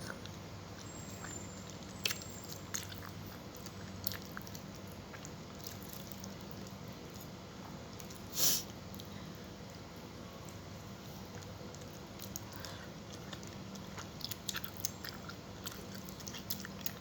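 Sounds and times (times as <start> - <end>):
soft chewing with mouth clicks: 0.0 - 17.0
steady low hum: 0.0 - 17.0.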